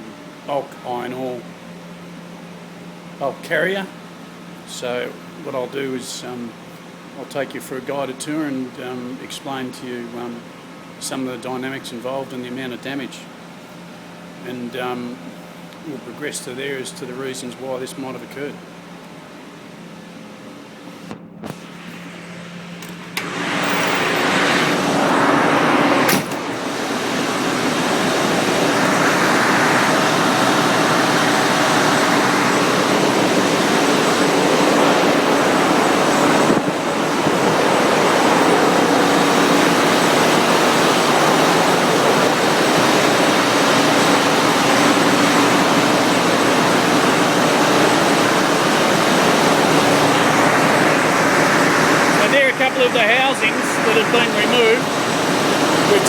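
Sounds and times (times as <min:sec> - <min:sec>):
engine room machinery roar: 0:00.0 - 0:56.0.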